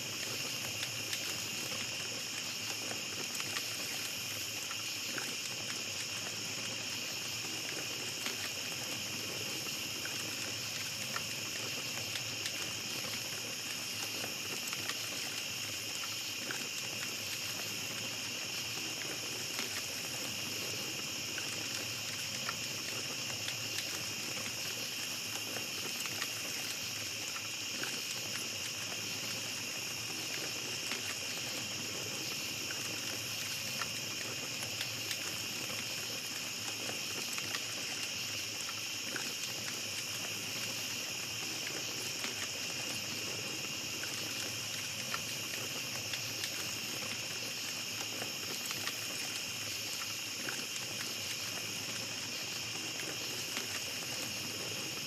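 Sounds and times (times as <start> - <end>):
campfire crackling: 0.0 - 55.0
night insects chirring: 0.0 - 55.0.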